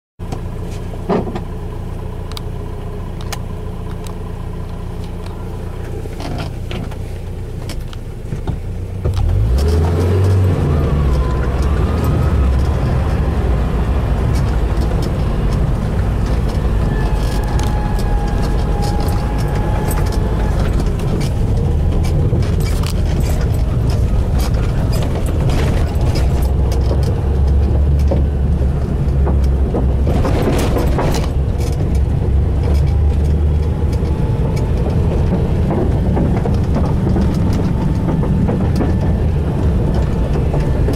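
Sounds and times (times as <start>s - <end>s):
vehicle engine and road rumble: 0.2s - 40.9s
knocks and rattles: 7.6s - 40.9s.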